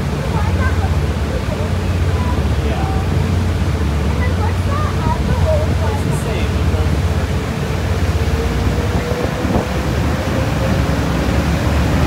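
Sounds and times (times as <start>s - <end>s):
ferry engine low rumble: 0.0s - 12.0s
wind on microphone: 0.0s - 12.0s.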